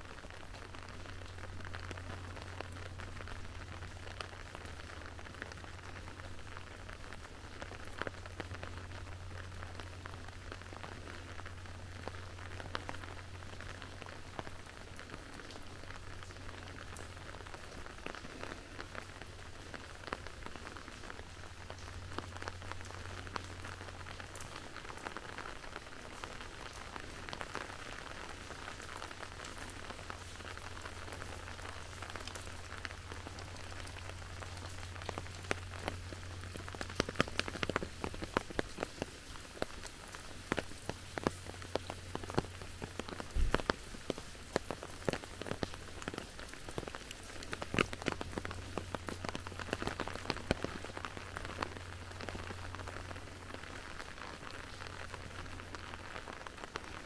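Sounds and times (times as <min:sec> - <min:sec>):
close raindrop hits: 0:00.0 - 0:57.0
rain falling: 0:00.0 - 0:57.0.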